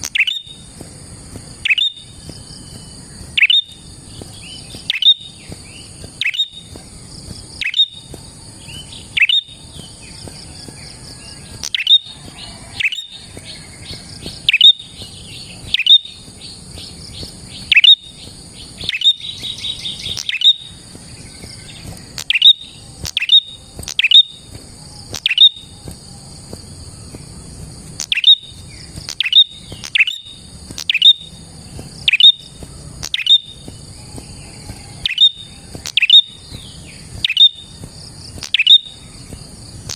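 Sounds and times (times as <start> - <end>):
bird chirping: 0.0 - 39.9
bird rattling trill: 0.0 - 39.9
high-pitched insect buzz: 0.0 - 39.9.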